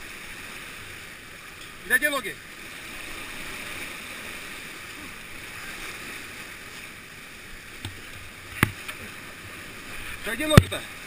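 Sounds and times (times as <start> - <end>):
whitewater rushing at weir: 0.0 - 11.0.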